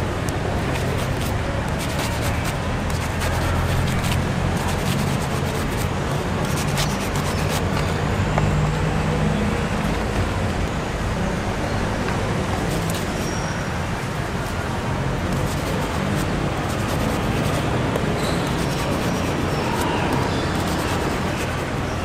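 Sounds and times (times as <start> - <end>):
traffic engine hum: 0.0 - 22.0.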